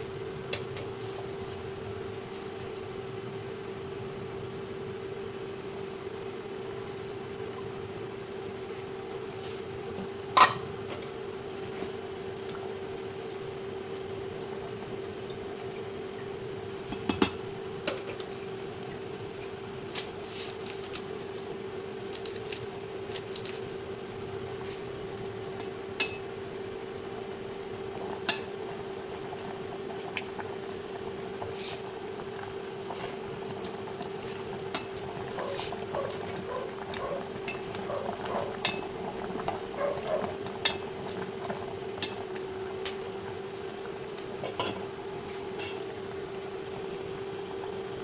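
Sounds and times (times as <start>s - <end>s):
soup bubbling in a pot: 0.0s - 48.0s
steady hum: 0.0s - 48.0s.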